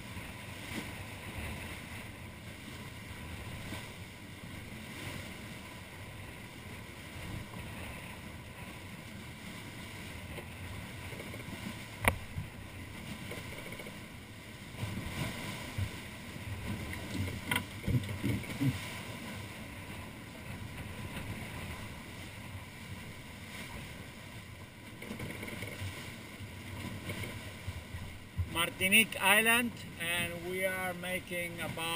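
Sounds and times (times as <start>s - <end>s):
wind and water noise: 0.0s - 31.9s.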